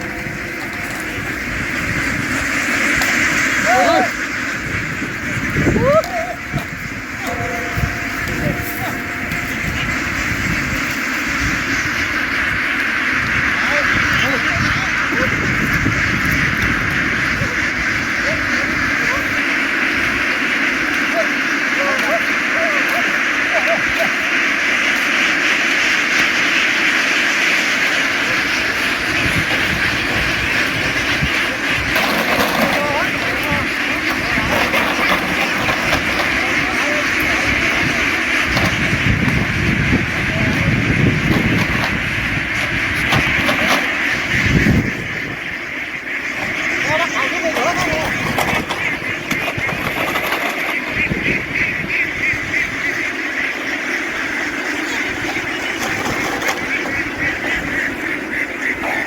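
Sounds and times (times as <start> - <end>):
flock of ducks quacking: 0.0 - 59.0.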